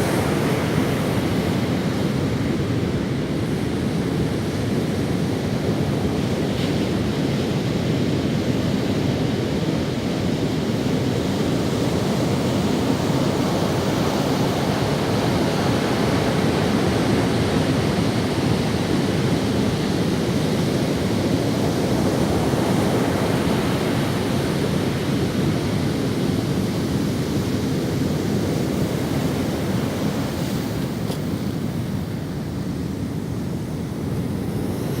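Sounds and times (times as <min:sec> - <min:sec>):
ocean waves breaking on beach: 0:00.0 - 0:35.0.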